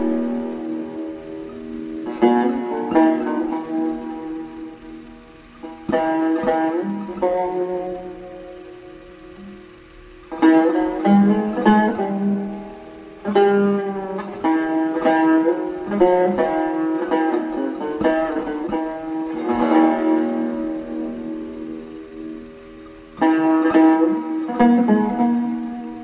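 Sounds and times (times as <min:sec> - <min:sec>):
long-necked lute plucked solo: 0:00.0 - 0:26.0.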